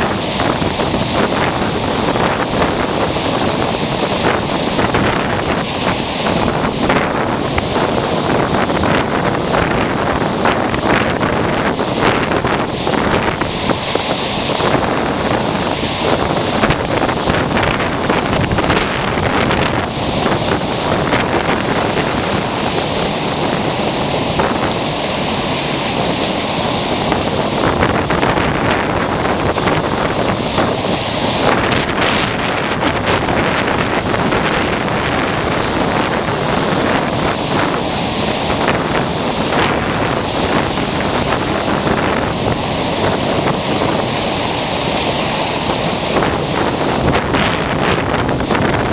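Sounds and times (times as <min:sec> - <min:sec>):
ocean surf breaking: 0:00.0 - 0:48.9
wind noise on microphone: 0:00.0 - 0:48.9.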